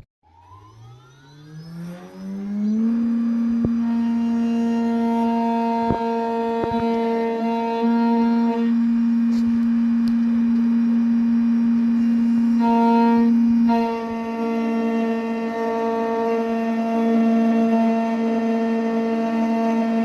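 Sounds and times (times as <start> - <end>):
reedy wind instrument music: 1.8 - 20.0.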